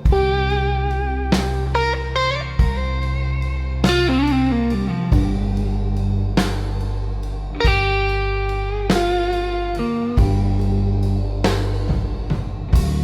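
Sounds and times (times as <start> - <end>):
bass: 0.0 - 13.0
electric guitar bent notes: 0.0 - 13.0.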